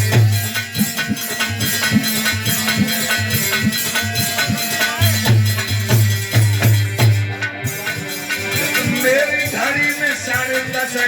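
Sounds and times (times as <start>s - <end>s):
deep drum beats: 0.0s - 11.0s
rattling hand percussion: 0.0s - 11.0s.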